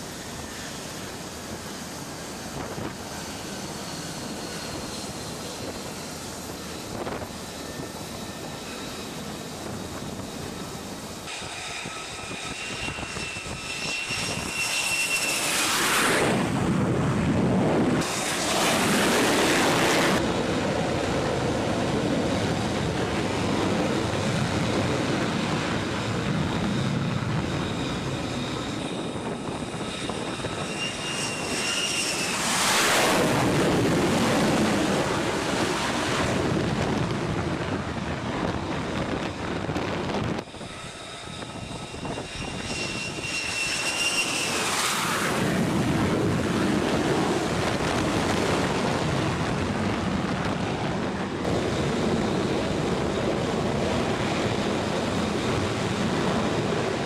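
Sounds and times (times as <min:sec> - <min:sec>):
steady jet engine noise: 0:00.0 - 0:57.0
jet fighter launching: 0:11.2 - 0:57.0.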